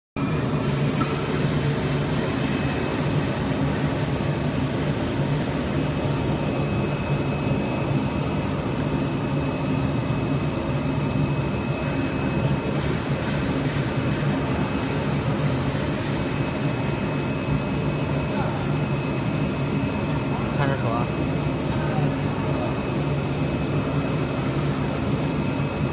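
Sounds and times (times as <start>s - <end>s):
faint high whine: 0.2s - 25.9s.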